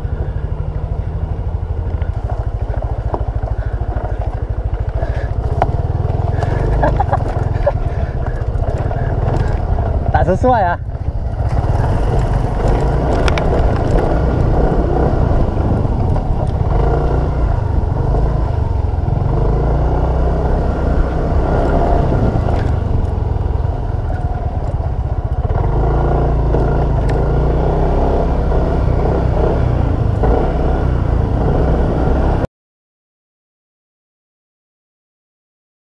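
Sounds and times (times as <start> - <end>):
small motorcycle engine running: 0.0 - 32.5.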